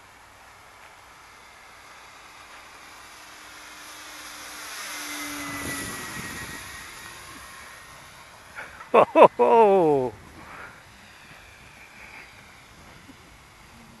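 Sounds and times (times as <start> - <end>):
model airplane motor and propeller: 0.0 - 14.0.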